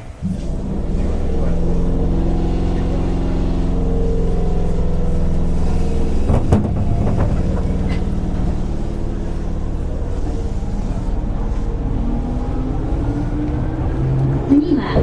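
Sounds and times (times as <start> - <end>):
traction motors humming: 0.0 - 15.0
train wheel and track noise: 0.0 - 15.0
wheels knocking: 0.0 - 15.0.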